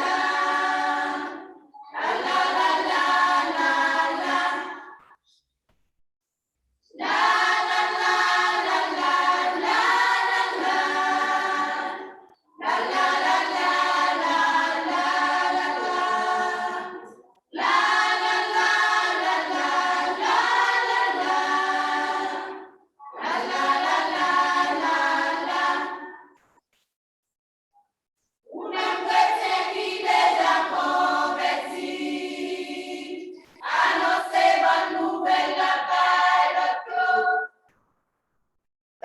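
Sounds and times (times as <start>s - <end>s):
choir singing: 0.0s - 5.1s, 6.9s - 26.3s, 28.5s - 37.6s.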